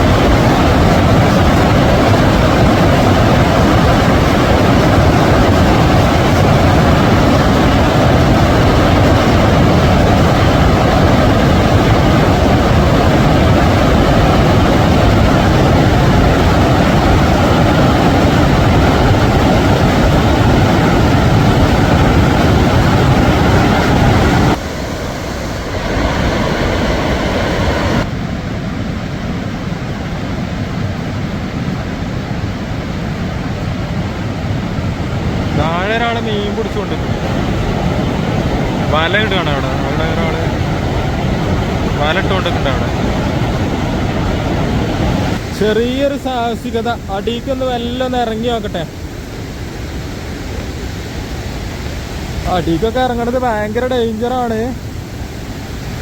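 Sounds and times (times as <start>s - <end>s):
waterfall rushing over rock: 0.0s - 28.1s, 34.1s - 56.0s.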